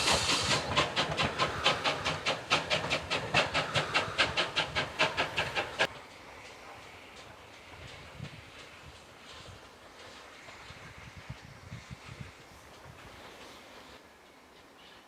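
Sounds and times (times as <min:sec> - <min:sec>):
steam hissing: 0:00.0 - 0:15.0
steam locomotive exhaust beats: 0:00.0 - 0:15.0.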